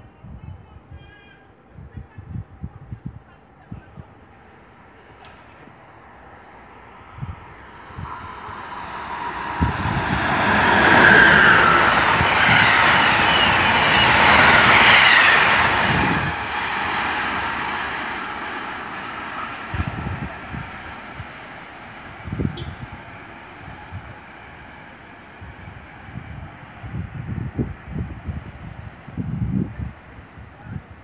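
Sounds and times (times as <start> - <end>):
train wheels rushing on rails: 5.1 - 31.0.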